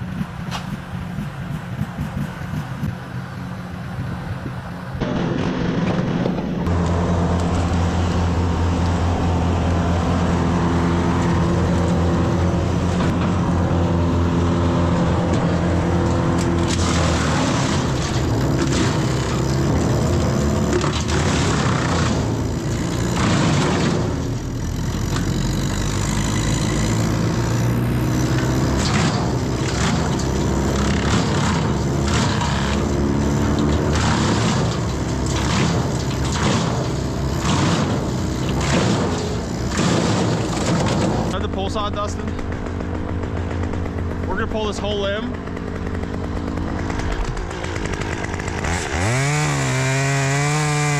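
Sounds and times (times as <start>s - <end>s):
machinery engine running: 0.0s - 50.9s.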